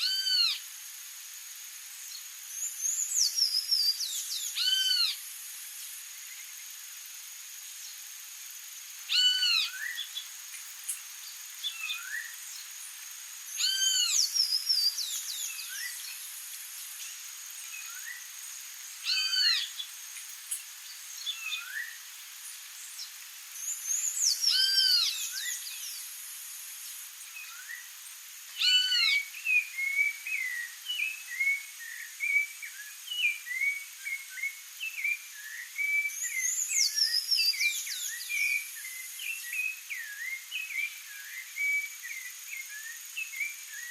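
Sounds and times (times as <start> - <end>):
songbird arched call: 0.0 - 0.7, 2.1 - 5.3, 9.0 - 26.2, 26.8 - 43.9
faint high-pitched hum: 0.0 - 43.9.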